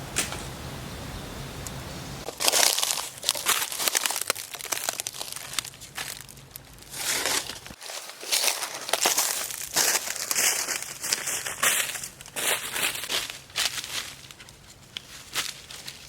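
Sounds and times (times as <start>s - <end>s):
crinkling and crunching rustles: 2.2s - 16.0s.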